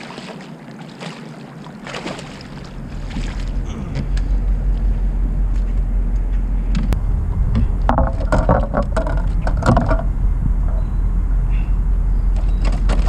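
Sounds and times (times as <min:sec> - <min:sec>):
wind buffeting microphone: 0:01.8 - 0:13.0.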